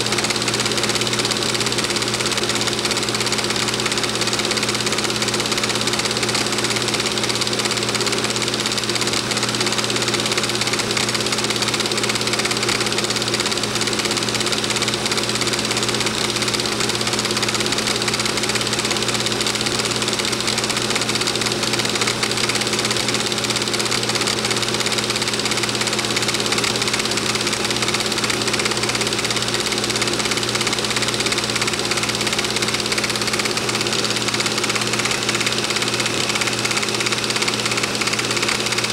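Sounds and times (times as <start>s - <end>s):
film projector whirring and clattering: 0.0s - 38.9s.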